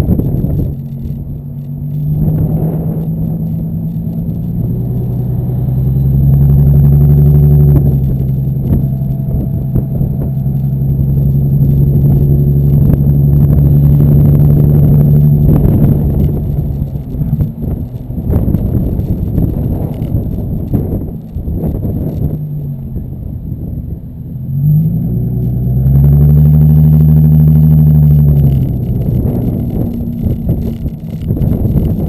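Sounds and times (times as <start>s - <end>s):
low exhaust drone: 0.0s - 32.0s.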